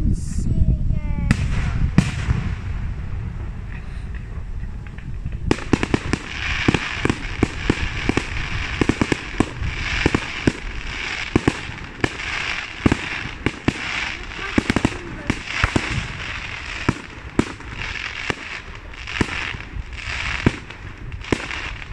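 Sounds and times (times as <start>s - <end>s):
crackling hiss of fireworks: 1.0s - 21.9s
fireworks bursting with sharp bangs: 1.2s - 21.9s.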